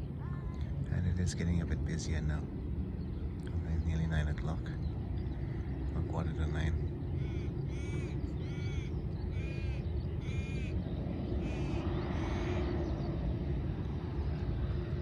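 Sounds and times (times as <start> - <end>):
bird calling: 0.0 - 2.4, 3.0 - 13.4
steady low rumble: 0.0 - 15.0.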